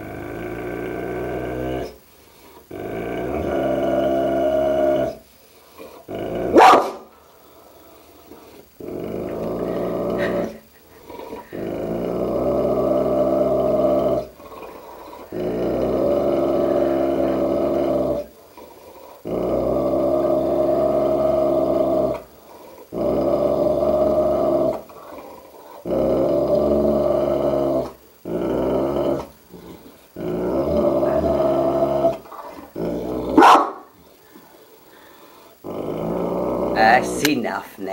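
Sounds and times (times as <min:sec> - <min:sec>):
dog growling deeply: 0:00.0 - 0:02.0, 0:02.6 - 0:37.4.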